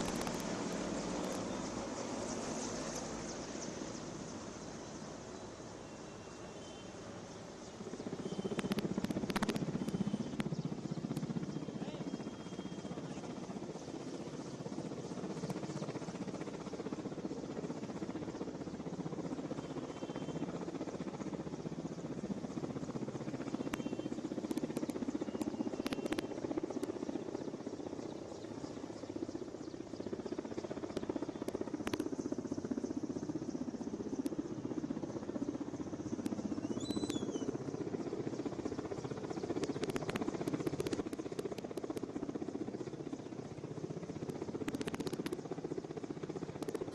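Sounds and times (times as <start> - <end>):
helicopter hovering: 0.0 - 46.9.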